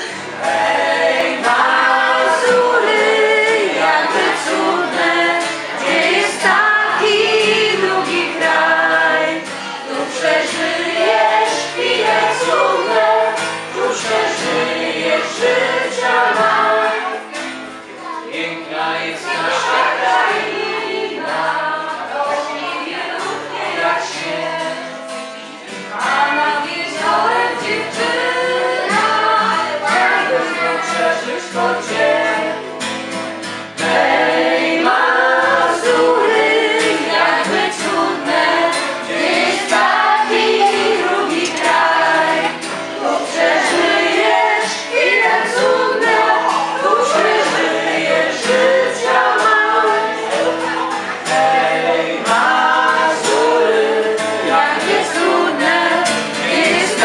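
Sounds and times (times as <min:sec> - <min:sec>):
group of people singing: 0:00.0 - 0:57.0
strummed acoustic guitar: 0:00.0 - 0:57.0.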